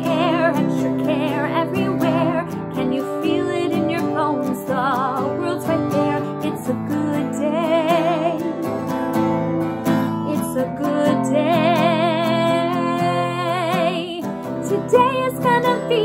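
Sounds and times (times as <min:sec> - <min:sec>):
woman singing slow song: 0:00.0 - 0:08.9, 0:10.0 - 0:16.0
acoustic guitar strumming: 0:00.0 - 0:16.0.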